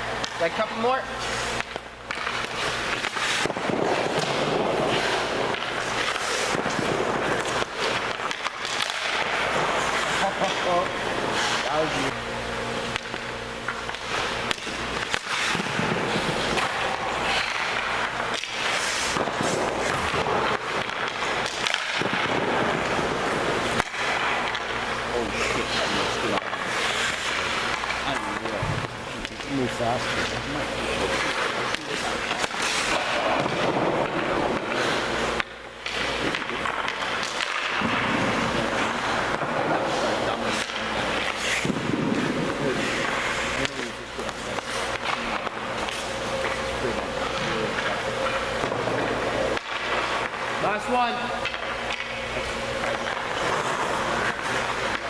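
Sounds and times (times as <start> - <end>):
skate blades scraping ice: 0.0 - 12.2, 12.8 - 55.0
pucks cracking: 0.0 - 55.0.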